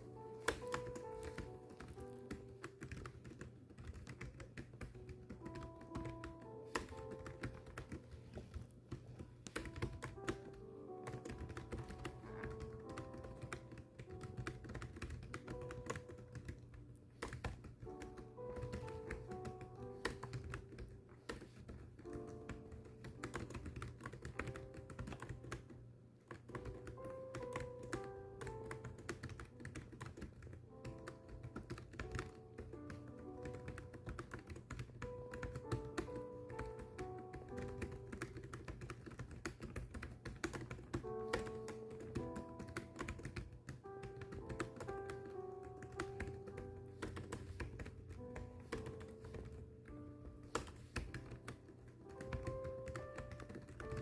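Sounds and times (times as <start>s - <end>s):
fast keyboard typing: 0.0s - 54.0s
soft background music: 0.0s - 54.0s.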